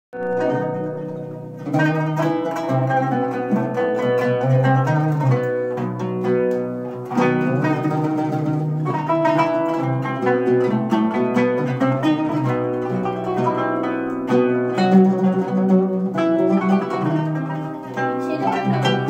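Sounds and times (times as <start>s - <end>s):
kanun and oud duet: 0.1s - 19.0s.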